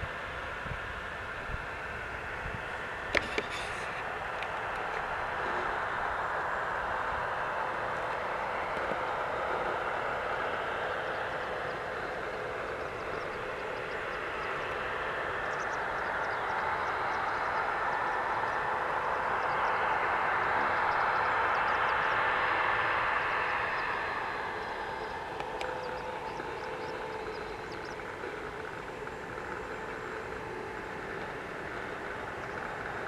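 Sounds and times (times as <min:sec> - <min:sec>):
jet engines at taxi power: 0:00.0 - 0:33.0.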